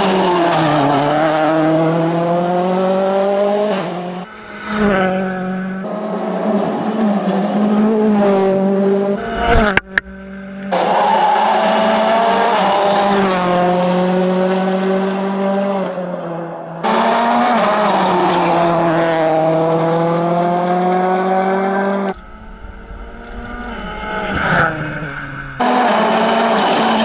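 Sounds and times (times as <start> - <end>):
rally car engine at high revs: 0.0 - 27.0.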